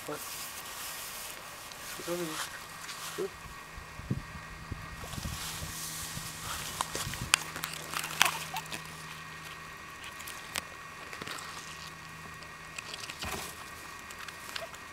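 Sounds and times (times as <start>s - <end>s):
guinea pigs rustling in grass: 0.0s - 3.6s, 4.7s - 14.9s
faint steady hum: 0.0s - 14.9s.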